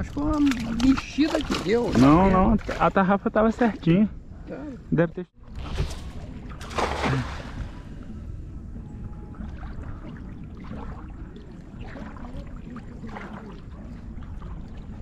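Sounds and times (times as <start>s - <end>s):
low steady rumble: 0.0s - 15.0s
water lapping and trickling: 0.0s - 15.0s.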